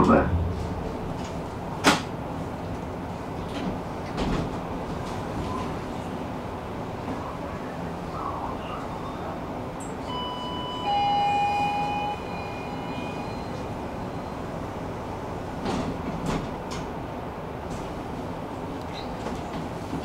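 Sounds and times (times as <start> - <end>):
tram rumbling: 0.0 - 20.0.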